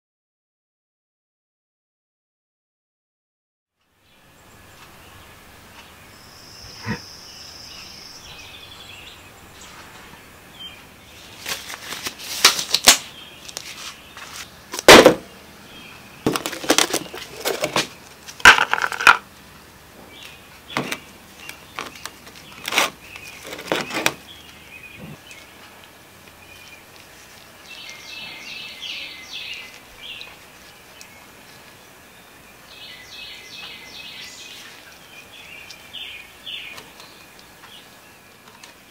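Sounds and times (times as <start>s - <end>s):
low background hiss: 3.8s - 38.9s.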